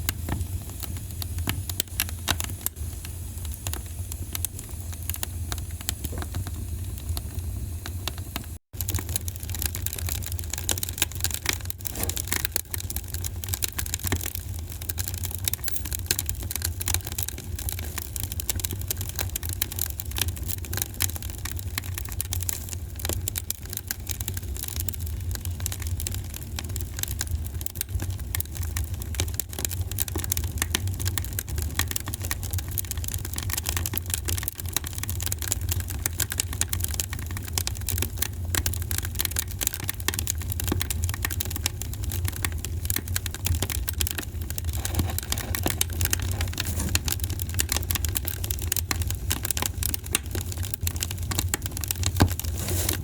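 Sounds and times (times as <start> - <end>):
fireplace fire crackling: 0.0 - 53.0
low rumble of burning: 0.0 - 53.0.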